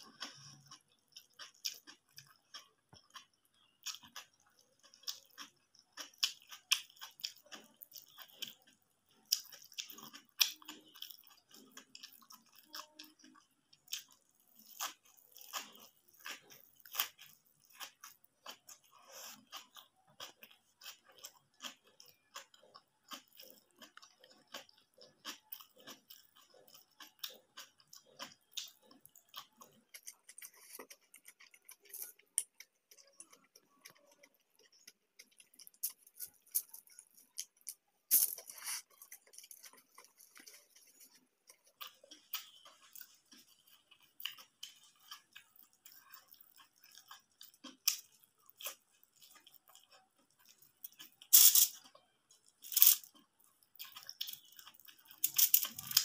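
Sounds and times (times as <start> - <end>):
close chewing with crunches: 0.0 - 56.0.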